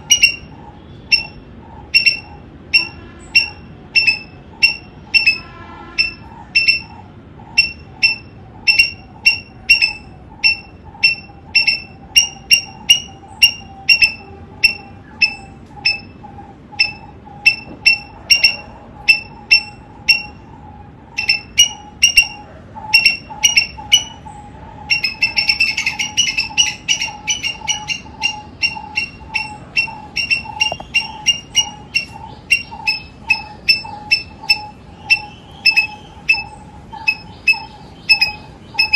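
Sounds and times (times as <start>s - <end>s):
squirrel barking: 0.0s - 38.9s.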